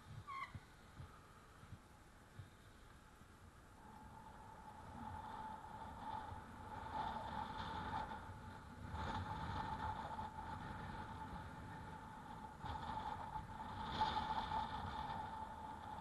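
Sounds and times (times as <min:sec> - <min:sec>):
steady high whine: 0:00.0 - 0:16.0
wind noise: 0:00.0 - 0:16.0.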